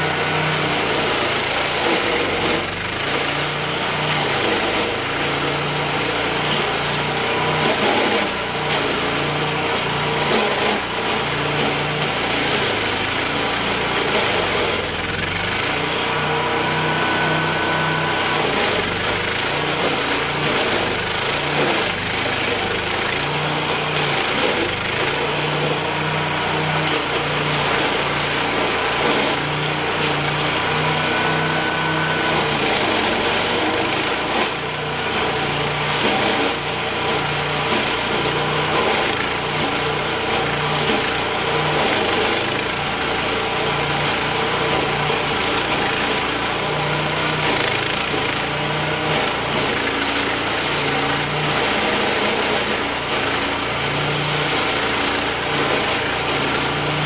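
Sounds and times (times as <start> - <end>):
stump grinder engine droning: 0.0 - 57.0.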